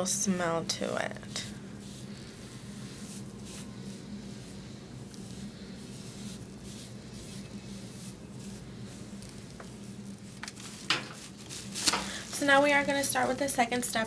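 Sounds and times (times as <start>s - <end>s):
steady low hum: 0.0s - 14.0s
gauze pad swishing on skin: 1.2s - 13.3s.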